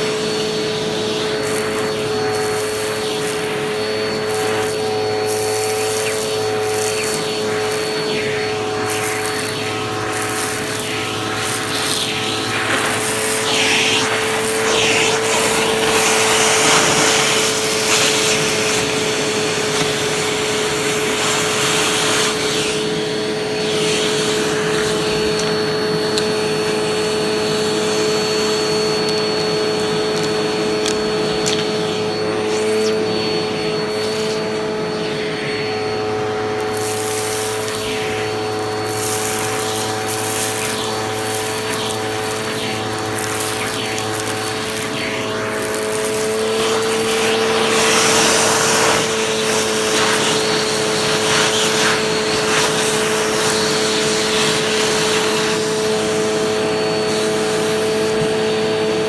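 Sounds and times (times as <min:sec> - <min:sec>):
debris crackling in vacuum hose: 0:00.0 - 0:59.0
vacuum cleaner motor whine: 0:00.0 - 0:59.0.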